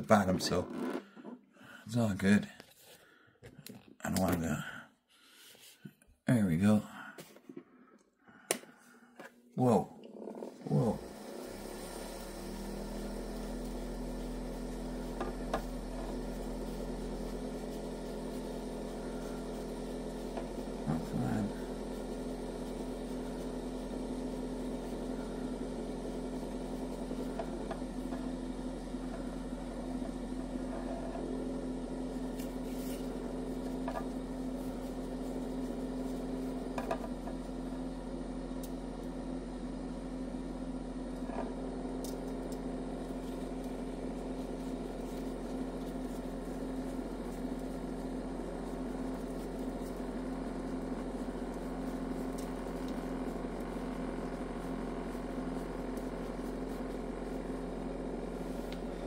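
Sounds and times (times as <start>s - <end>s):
spinner motor hum: 10.0s - 59.0s.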